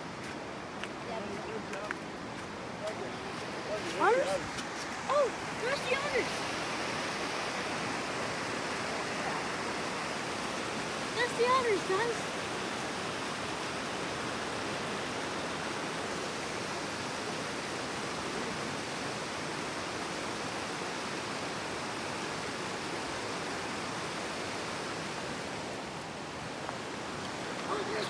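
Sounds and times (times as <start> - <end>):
fast-flowing water rushing: 0.0 - 28.0.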